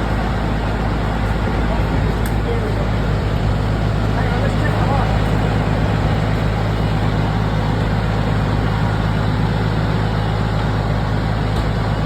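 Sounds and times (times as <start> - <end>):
tyre and road noise: 0.0 - 12.0
vehicle engine humming: 0.0 - 12.0.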